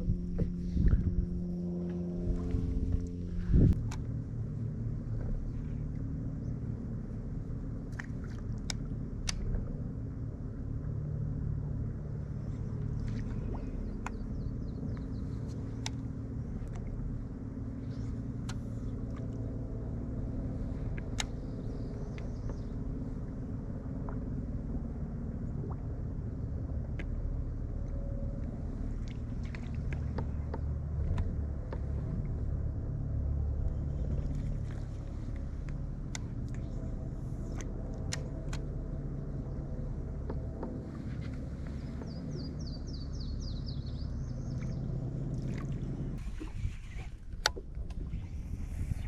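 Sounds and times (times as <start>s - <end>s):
boat motor humming: 0.0s - 49.0s.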